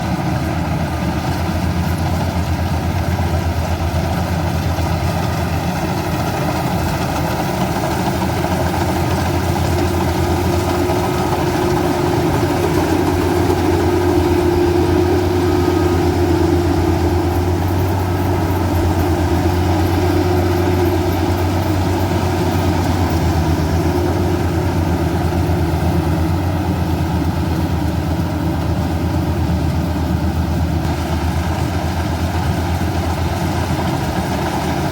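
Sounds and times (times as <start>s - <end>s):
combine harvester diesel engine: 0.0s - 34.9s
higher steady hum: 5.0s - 34.9s.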